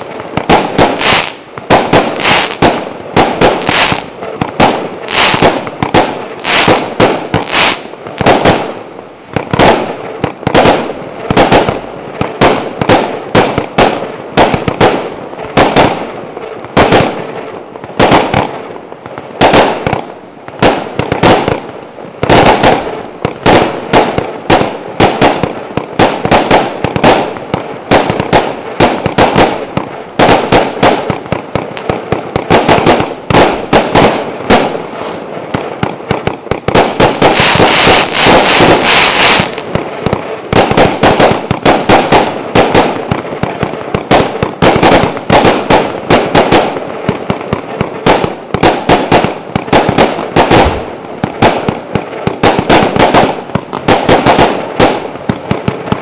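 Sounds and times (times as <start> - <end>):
fireworks firing rapidly: 0.0 - 56.0.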